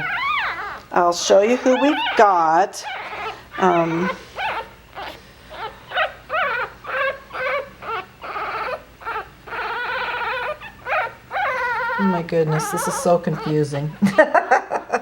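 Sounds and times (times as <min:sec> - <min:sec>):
puppies squealing and whimpering: 0:00.0 - 0:14.5.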